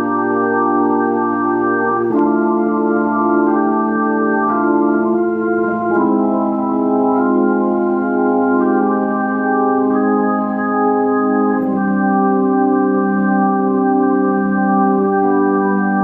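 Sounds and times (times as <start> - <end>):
organ chords through rotating speaker: 0.0 - 16.0.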